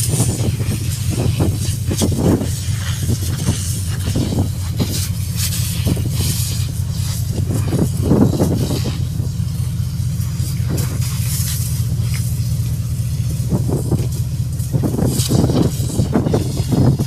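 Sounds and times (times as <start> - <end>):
hose spraying water on deck: 0.0 - 17.0
steady low rumble: 0.0 - 17.0.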